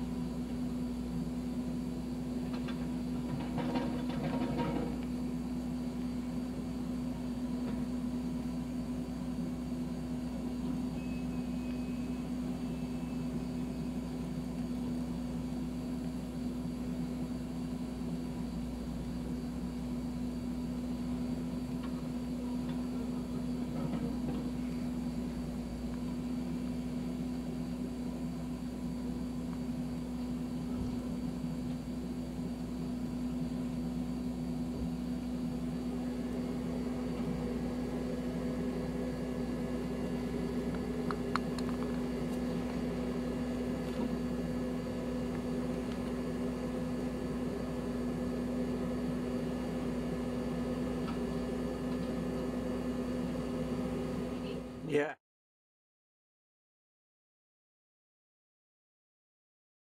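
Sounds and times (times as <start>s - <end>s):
diesel engine running steadily: 0.0s - 55.1s.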